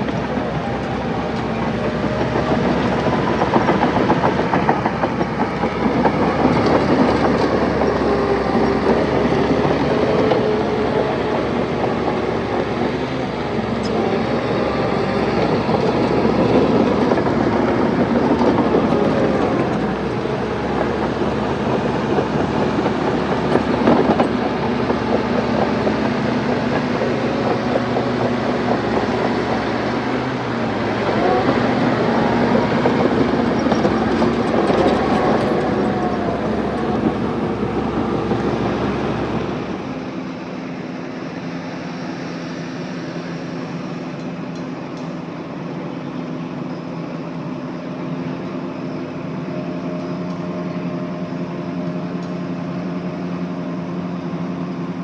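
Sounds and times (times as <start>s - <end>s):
bulldozer diesel engine: 0.0s - 55.0s
steel tracks clattering: 0.0s - 55.0s.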